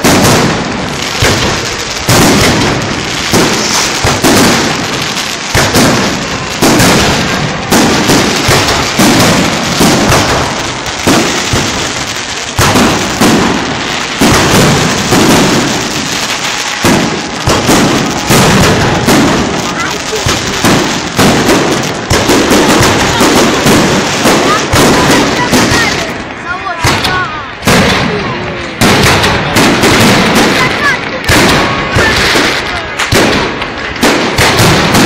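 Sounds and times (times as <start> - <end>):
fireworks shells bursting: 0.0 - 35.0.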